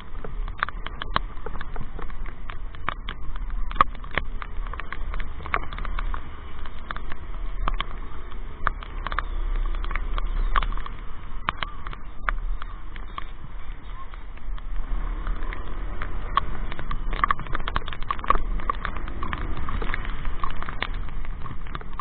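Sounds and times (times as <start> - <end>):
heavy raindrops tapping: 0.0 - 22.0
low rumble: 0.0 - 22.0.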